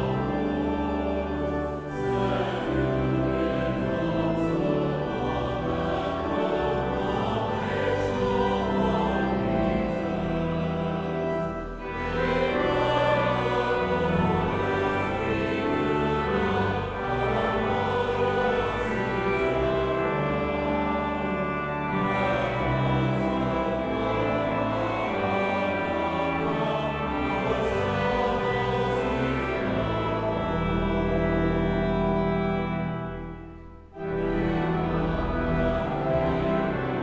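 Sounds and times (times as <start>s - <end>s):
choir singing sustained chords: 0.0s - 37.0s
instrumental accompaniment: 0.0s - 37.0s.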